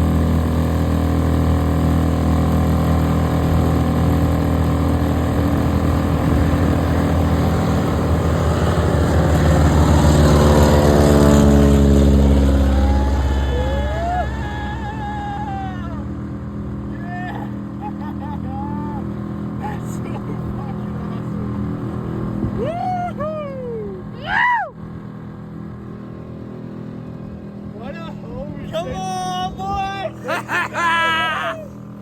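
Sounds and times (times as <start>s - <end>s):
motorboat engine running hard: 0.0s - 32.0s.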